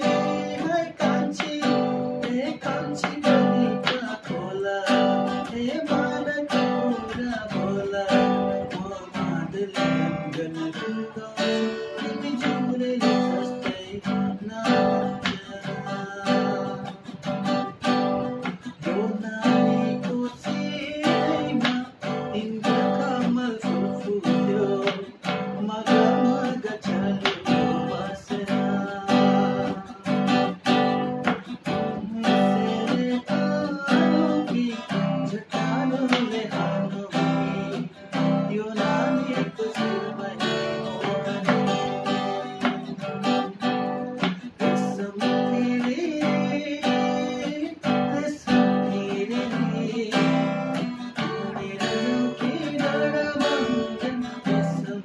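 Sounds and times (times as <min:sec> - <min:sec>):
electric guitar strumming chords: 0:00.0 - 0:55.0.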